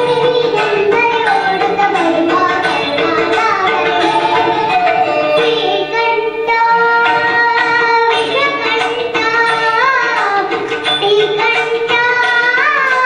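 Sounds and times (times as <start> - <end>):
girl singing into a microphone: 0.0 - 13.0.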